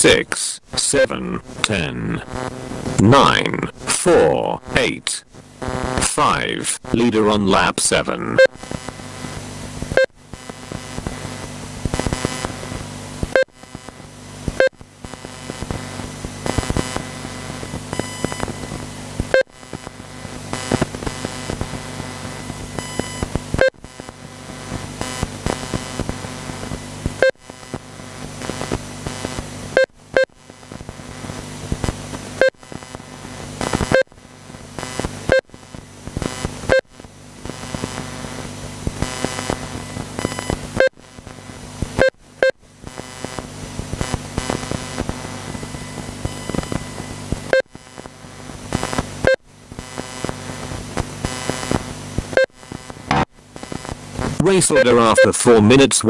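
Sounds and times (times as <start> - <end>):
steady low hum: 0.0 - 55.7.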